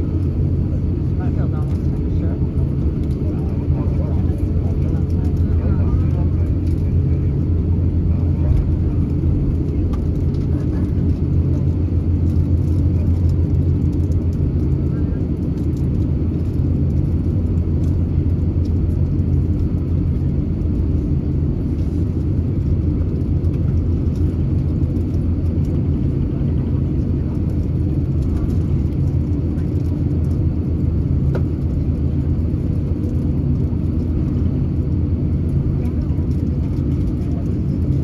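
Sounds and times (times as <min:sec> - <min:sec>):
airliner engines low rumble: 0:00.0 - 0:38.0.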